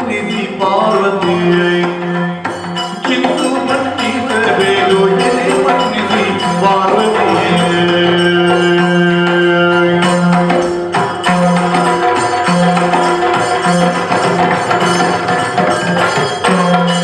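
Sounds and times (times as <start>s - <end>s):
drums beating with sticks: 0.0s - 17.0s
hand drum: 0.0s - 17.0s
jingling metal: 0.0s - 17.0s.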